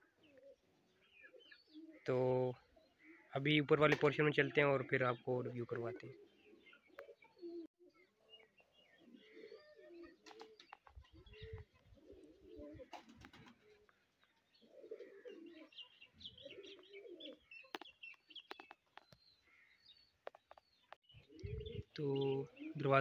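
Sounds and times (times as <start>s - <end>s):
pigeons cooing: 0.0s - 3.3s, 4.5s - 19.8s, 20.8s - 23.0s
small birds chirping: 0.0s - 23.0s.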